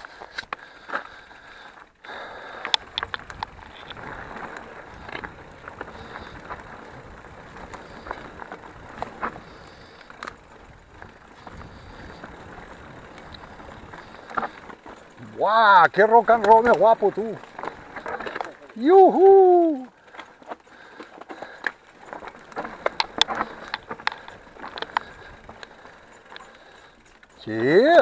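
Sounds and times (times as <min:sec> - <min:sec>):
bike tyres on gravel trail: 0:00.0 - 0:28.0
bike knocking and rattling: 0:02.1 - 0:28.0.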